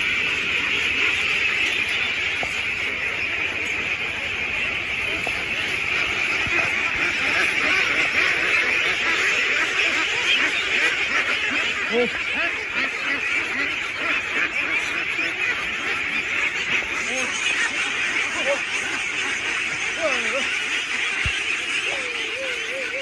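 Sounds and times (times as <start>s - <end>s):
flock of ducks quacking: 0.0s - 23.0s.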